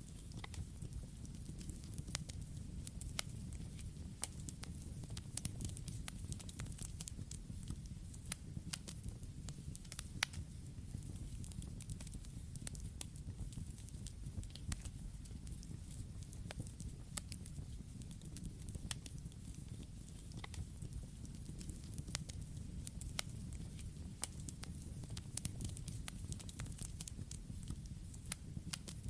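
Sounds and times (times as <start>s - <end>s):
campfire flames rumbling: 0.0s - 29.0s
fire crackling and popping: 0.0s - 29.0s.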